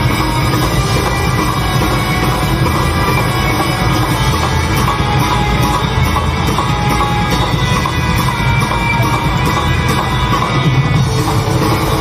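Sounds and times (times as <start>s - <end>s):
drum kit: 0.0s - 12.0s
electric guitar: 0.0s - 12.0s.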